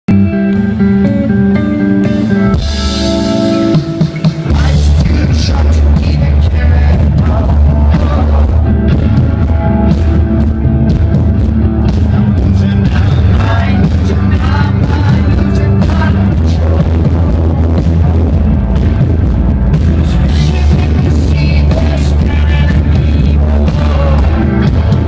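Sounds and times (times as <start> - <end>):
bass guitar: 0.0 - 25.0
drum kit: 0.1 - 25.0
live rock band playing: 0.1 - 25.0.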